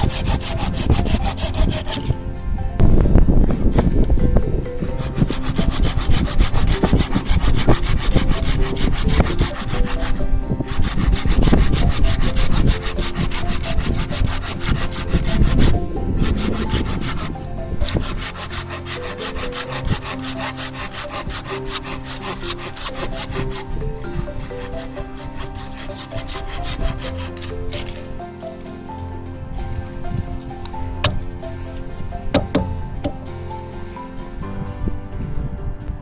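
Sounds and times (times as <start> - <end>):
hand saw cutting wood: 0.0 - 2.2, 4.8 - 33.2.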